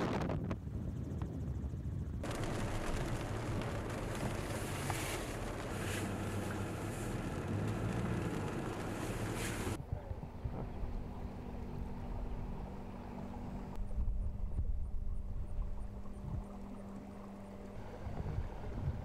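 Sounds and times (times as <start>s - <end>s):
low wind rumble: 0.0s - 19.0s
low engine hum: 0.1s - 19.0s.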